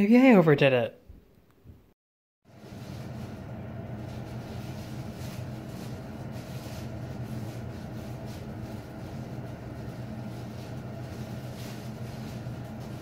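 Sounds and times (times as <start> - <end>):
plastic garbage bags crinkling: 2.5 - 13.0
steady low hum: 2.5 - 13.0.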